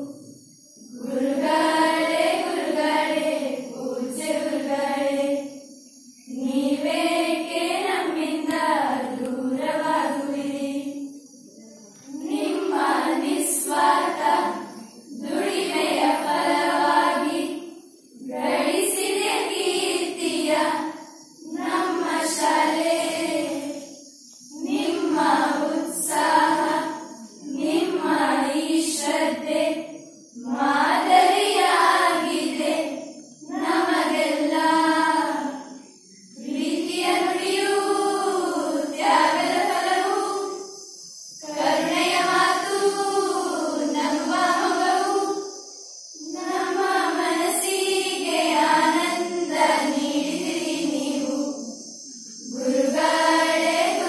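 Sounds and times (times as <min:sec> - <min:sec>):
girls singing unaccompanied: 0:00.0 - 0:54.0.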